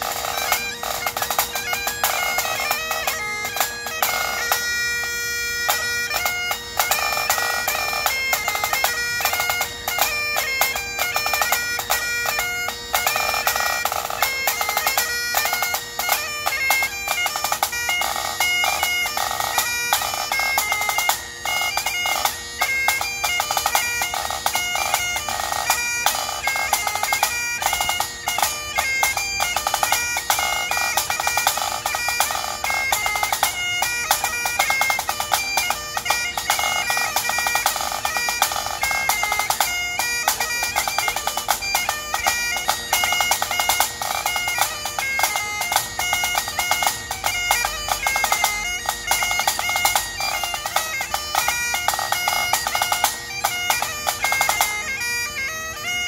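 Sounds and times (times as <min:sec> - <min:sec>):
bagpipe playing a tune: 0:00.0 - 0:56.0.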